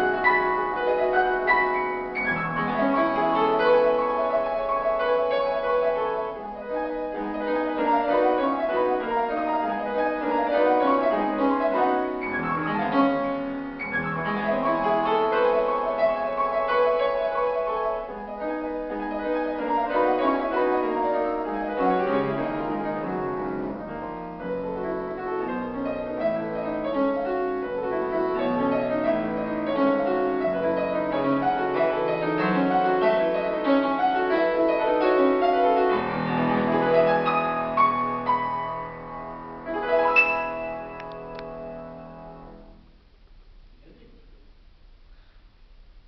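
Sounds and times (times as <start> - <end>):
grand piano playing: 0.0 - 43.2.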